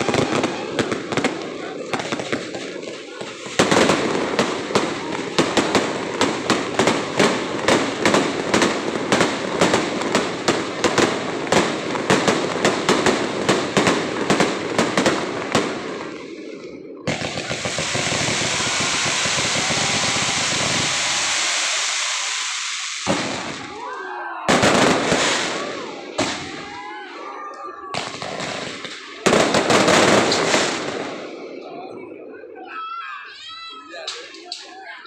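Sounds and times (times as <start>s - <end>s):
fireworks hissing: 0.0s - 23.9s, 24.5s - 27.4s, 28.0s - 31.3s
fireworks crackling: 0.0s - 31.8s.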